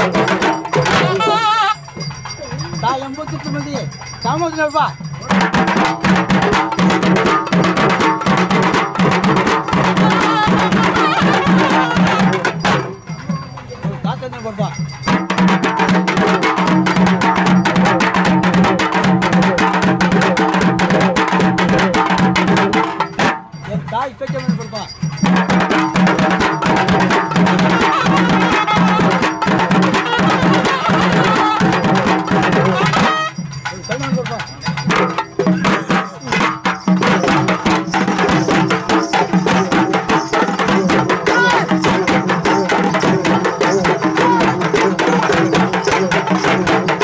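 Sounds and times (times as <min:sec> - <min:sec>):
drum ensemble playing fast: 0:00.0 - 0:47.0.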